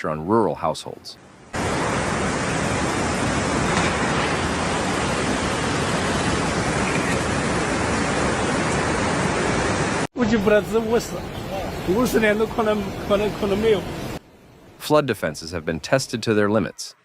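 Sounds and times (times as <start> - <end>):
water rushing: 1.5 - 16.2.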